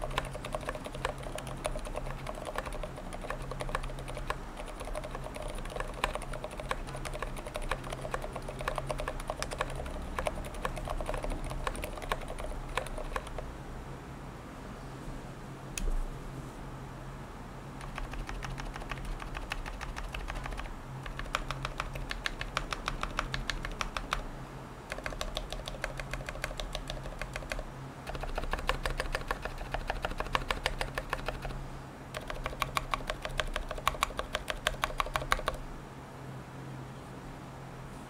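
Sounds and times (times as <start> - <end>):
typing on mechanical keyboard: 0.0 - 13.5, 17.8 - 24.3, 24.9 - 35.6.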